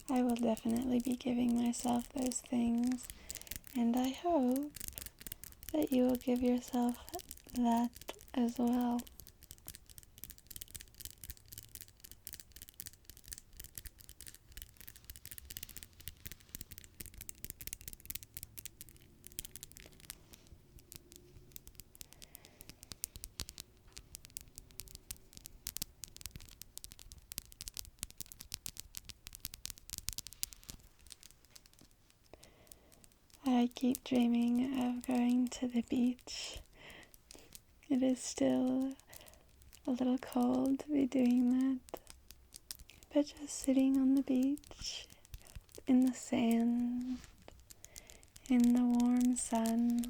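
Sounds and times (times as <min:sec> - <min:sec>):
fingernails tapping and scratching: 0:00.0 - 0:50.0.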